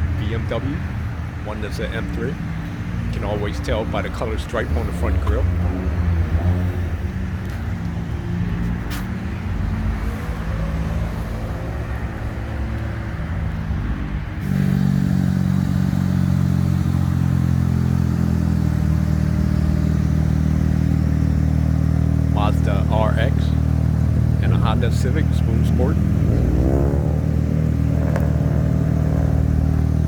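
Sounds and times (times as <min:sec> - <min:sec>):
car engine idling: 0:00.0 - 0:08.6, 0:09.3 - 0:30.0.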